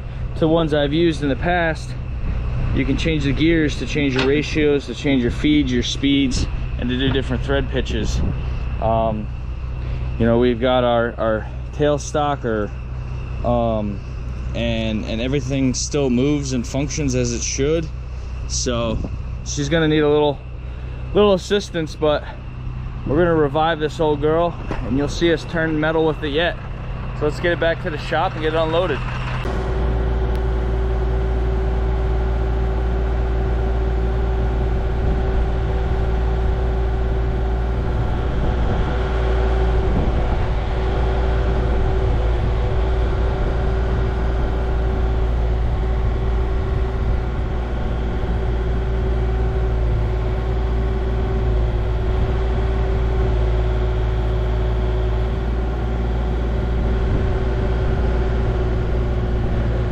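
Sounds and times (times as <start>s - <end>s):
engine drone: 0.0s - 59.9s
road rumble: 0.0s - 59.9s.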